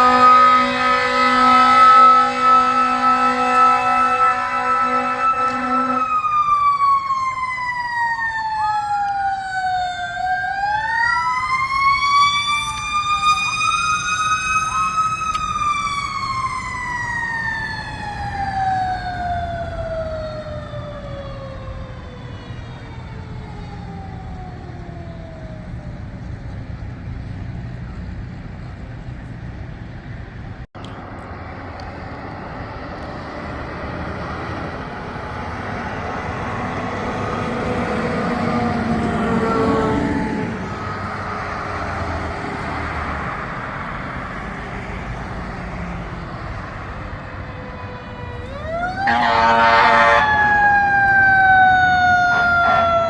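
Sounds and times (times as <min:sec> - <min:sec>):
fire truck sirens wailing: 0:00.0 - 0:53.0
truck engines rumbling: 0:00.0 - 0:53.0.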